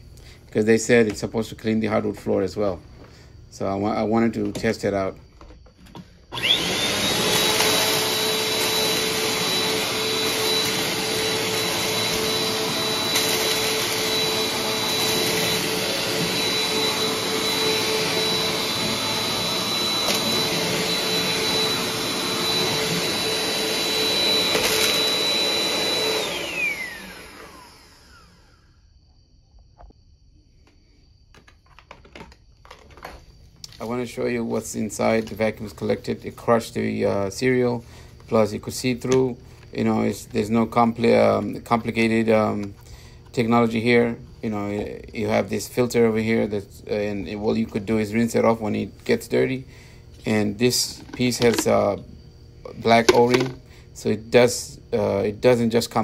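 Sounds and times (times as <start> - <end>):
vacuum cleaner motor whining: 0.8 - 28.8, 32.1 - 56.0.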